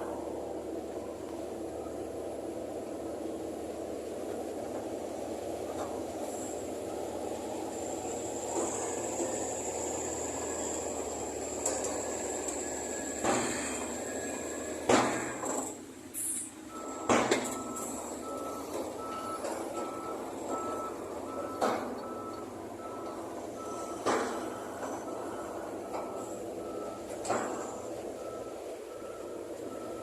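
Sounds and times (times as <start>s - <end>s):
reversing alarm beeping: 0.0s - 3.1s, 6.2s - 15.6s, 16.7s - 30.0s
construction machinery running: 0.0s - 30.0s.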